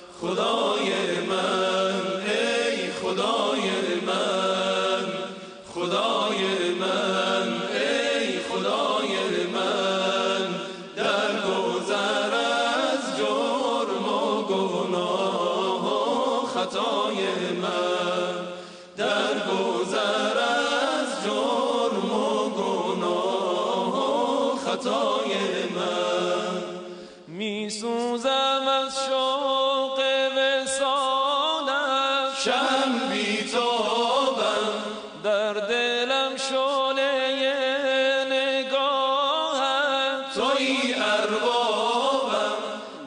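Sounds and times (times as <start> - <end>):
male group chanting a hymn: 0.0 - 43.0.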